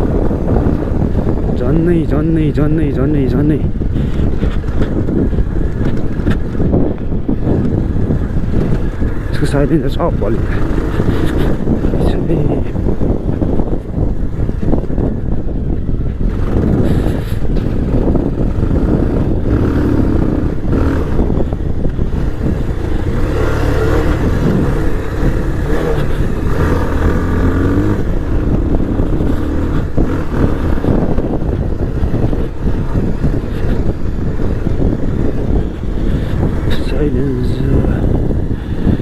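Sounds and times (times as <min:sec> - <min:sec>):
motorcycle engine revving: 0:02.9 - 0:39.0.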